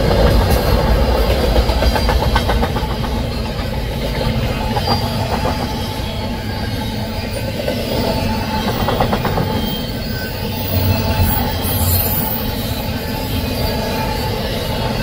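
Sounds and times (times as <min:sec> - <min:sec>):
diesel locomotive rumble: 0:00.0 - 0:15.0
train wheels clicking over rails: 0:00.0 - 0:15.0.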